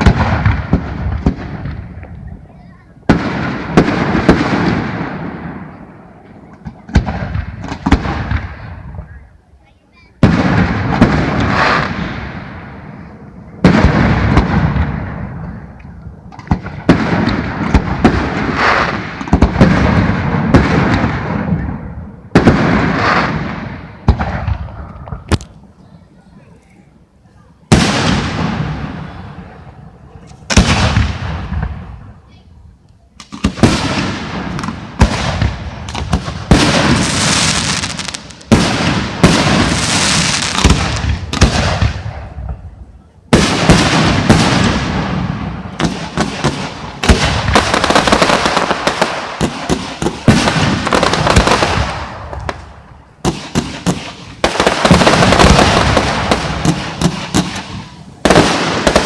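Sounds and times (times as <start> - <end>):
firework crackling: 0.0 - 26.1, 27.6 - 59.0.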